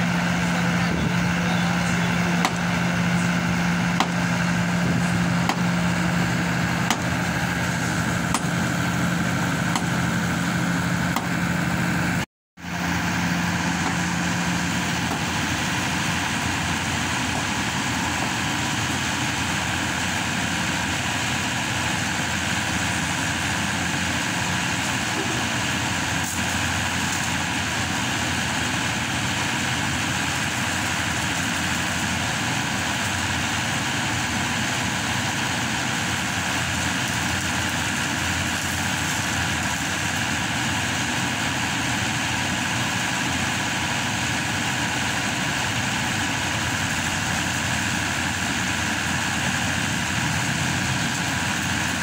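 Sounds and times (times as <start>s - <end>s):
hydraulic machine engine running: 0.0s - 52.0s.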